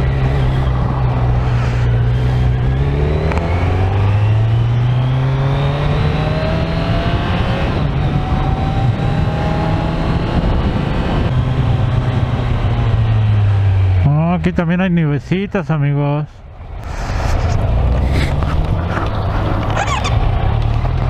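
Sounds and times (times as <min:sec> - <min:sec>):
motorcycle engine accelerating: 0:00.0 - 0:14.5, 0:16.9 - 0:21.0.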